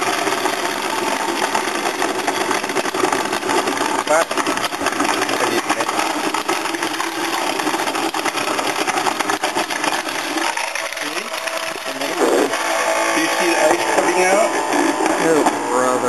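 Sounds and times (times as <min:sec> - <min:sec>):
ice crusher crunching ice: 0:00.0 - 0:16.0.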